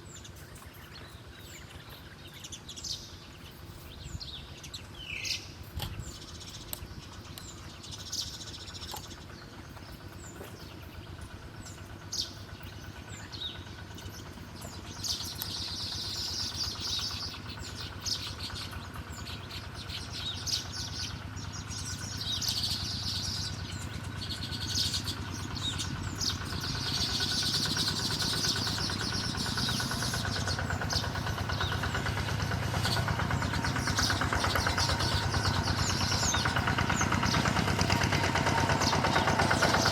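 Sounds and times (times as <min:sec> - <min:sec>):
engine humming: 0:00.0 - 0:39.9
small birds chirping: 0:00.0 - 0:39.9.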